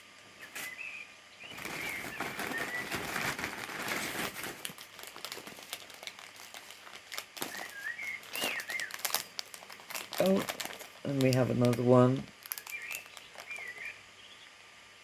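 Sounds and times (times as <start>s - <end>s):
plastic packets crinkling: 1.5s - 14.0s.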